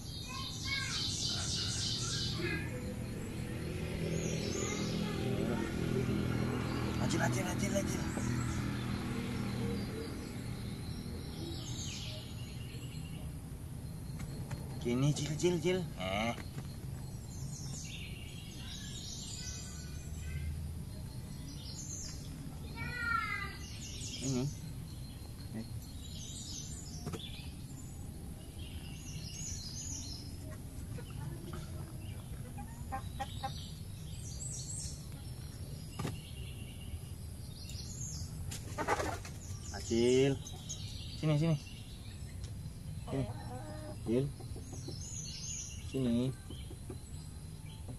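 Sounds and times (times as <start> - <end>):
outdoor background noise: 0.0 - 47.9.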